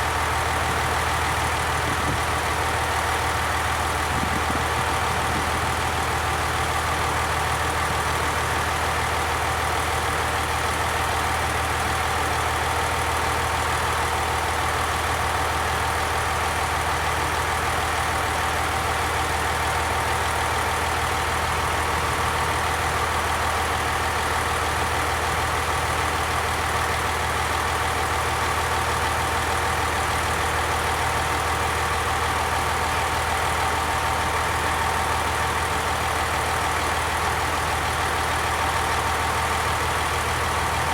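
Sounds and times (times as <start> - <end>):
diesel railcar engine idling: 0.0 - 40.9.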